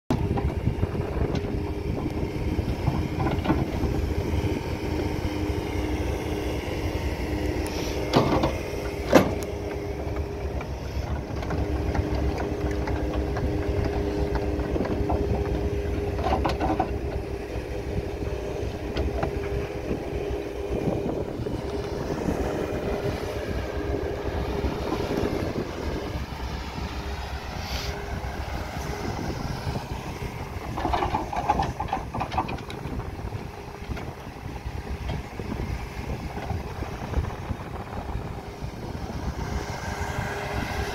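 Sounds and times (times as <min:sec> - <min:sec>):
excavator diesel engine rumble: 0:00.1 - 0:40.9.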